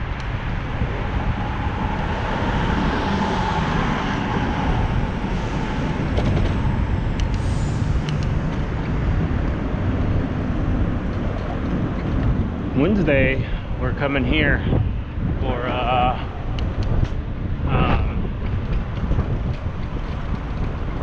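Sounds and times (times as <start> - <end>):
traffic passing alongside: 0.0 - 21.0
wind noise on microphone: 0.0 - 21.0.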